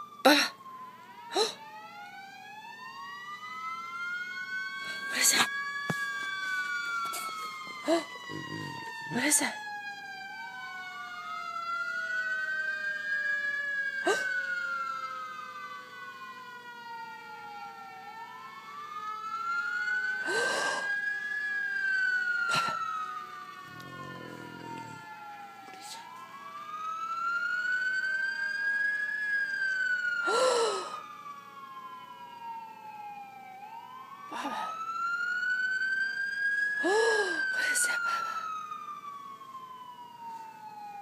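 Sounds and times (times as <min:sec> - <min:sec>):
siren wailing: 0:00.0 - 0:41.0.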